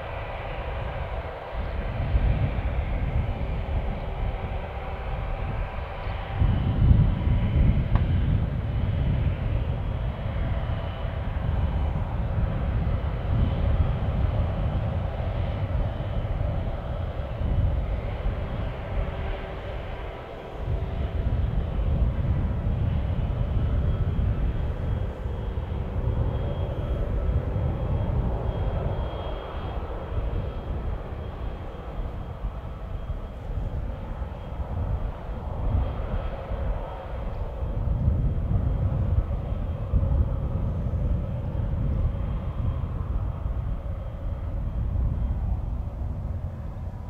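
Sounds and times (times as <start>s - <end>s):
jet engines idling: 0.0s - 47.0s.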